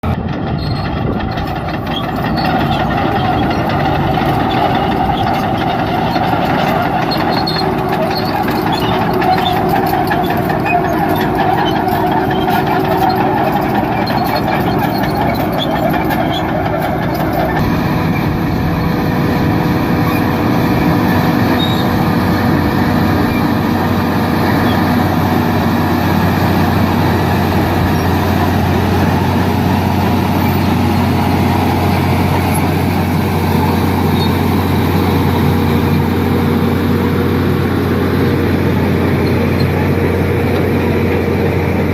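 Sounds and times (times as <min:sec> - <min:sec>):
bulldozer diesel engine running: 0:00.0 - 0:41.9.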